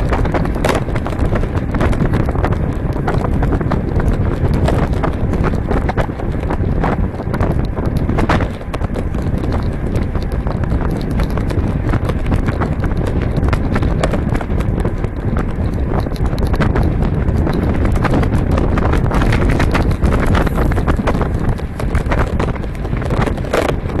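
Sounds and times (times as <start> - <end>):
bike clicking and rattling: 0.0 - 24.0
wind buffeting microphone: 0.0 - 24.0.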